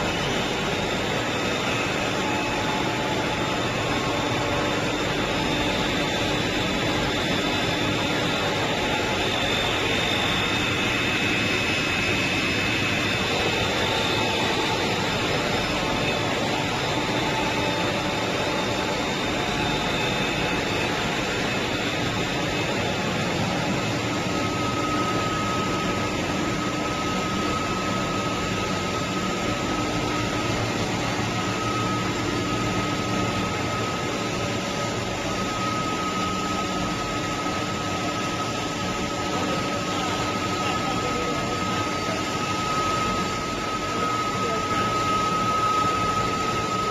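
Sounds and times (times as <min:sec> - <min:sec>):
faint high whine: 0:00.0 - 0:46.9
production line machine noise: 0:00.0 - 0:46.9.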